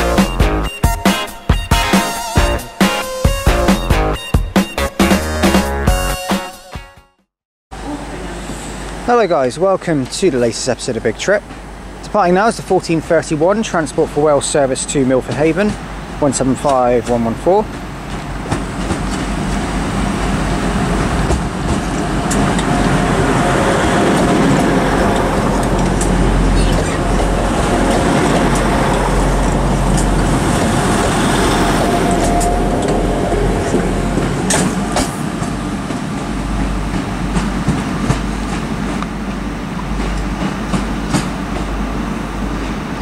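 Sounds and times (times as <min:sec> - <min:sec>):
diesel train engines working: 0:07.8 - 0:43.0.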